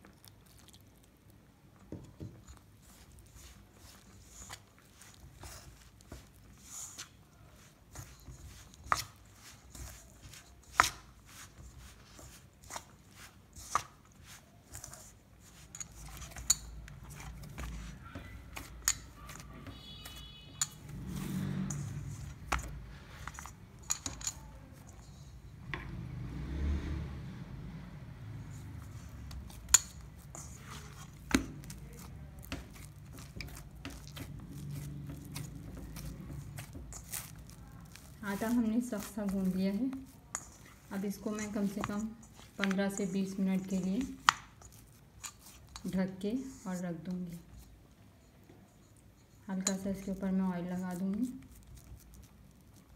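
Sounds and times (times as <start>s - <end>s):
hands kneading dough: 0.0s - 52.9s
spoon scraping metal bowl: 2.4s - 25.5s, 28.4s - 46.8s, 48.2s - 52.9s.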